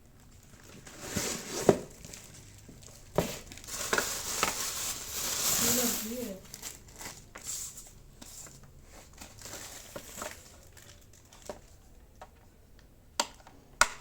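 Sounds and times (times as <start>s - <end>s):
faint rustling and handling: 0.2s - 12.8s.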